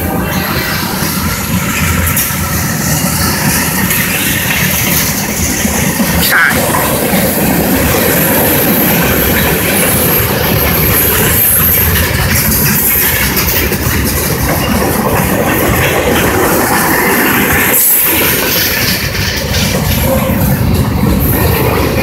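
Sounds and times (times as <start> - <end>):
freight train wheels on rails: 0.0 - 22.0.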